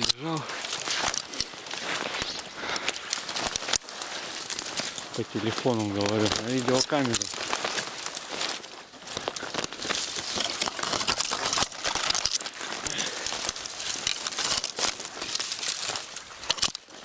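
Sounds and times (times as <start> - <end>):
boots crunching in snow: 0.0 - 17.0
twigs scraping against clothing: 0.0 - 17.0.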